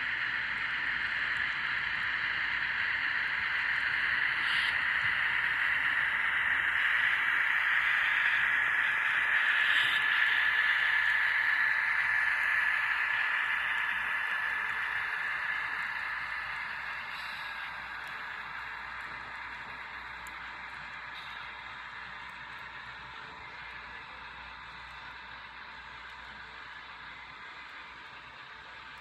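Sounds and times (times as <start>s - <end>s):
model train motor whirring: 0.0s - 29.0s.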